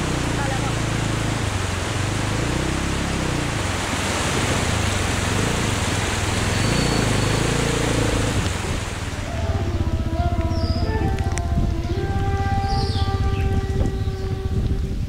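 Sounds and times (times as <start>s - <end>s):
river water rushing: 0.0s - 14.4s
motorcycle engine revving: 0.0s - 15.0s.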